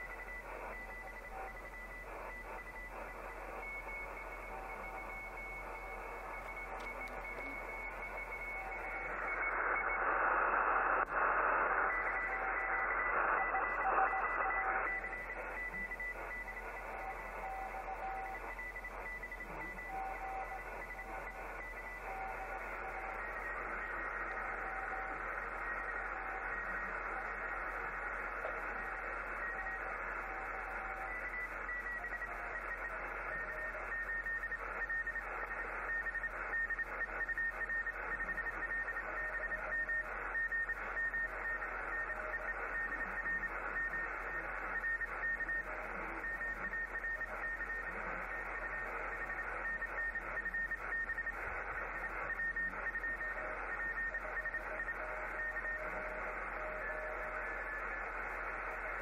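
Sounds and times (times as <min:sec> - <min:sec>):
broken steady radio tones: 0:00.0 - 0:59.0
faint steady whistles: 0:00.0 - 0:59.0
radio static hiss: 0:00.0 - 0:59.0.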